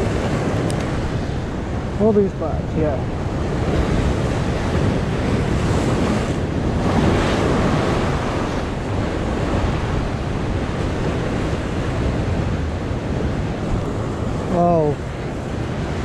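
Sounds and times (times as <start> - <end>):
ocean surf breaking on rocks: 0.0 - 16.0
wind buffeting microphone: 0.0 - 16.0.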